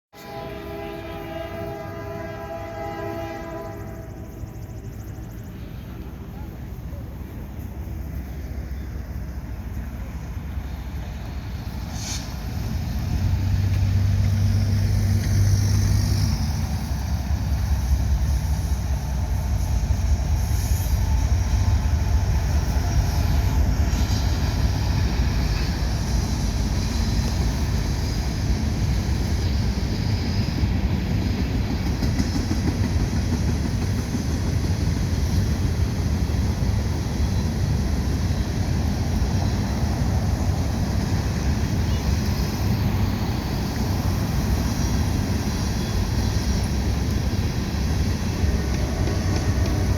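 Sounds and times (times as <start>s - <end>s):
freight train rumbling past: 0.2s - 49.9s.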